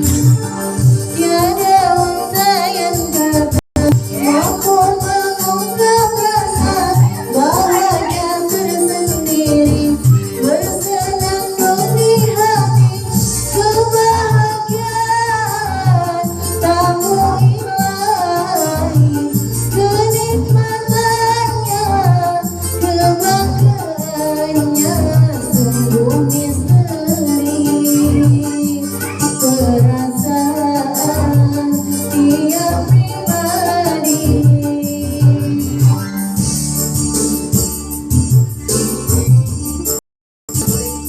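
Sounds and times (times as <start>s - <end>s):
person singing: 0.0s - 37.0s
music backing track with beat: 0.0s - 41.0s.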